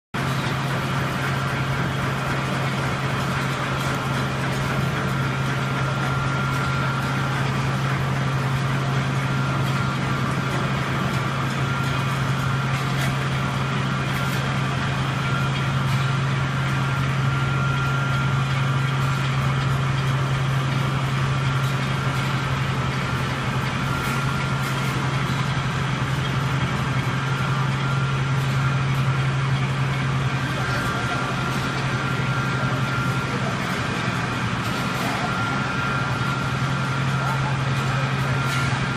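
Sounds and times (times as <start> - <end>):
low machinery hum: 0.2 - 38.9.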